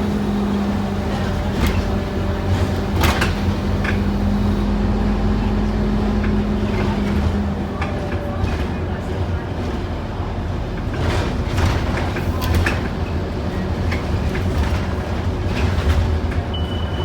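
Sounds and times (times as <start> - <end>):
bus body rattles: 0.0 - 17.0
bus diesel engine rumbling: 0.0 - 17.0.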